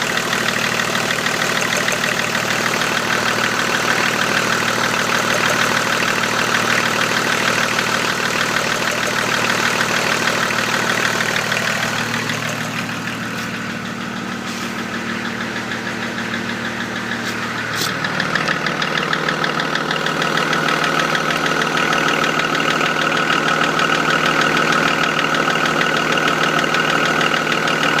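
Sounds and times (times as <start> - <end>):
diesel engine idling: 0.0 - 28.0
rhythmic engine knock: 0.0 - 28.0.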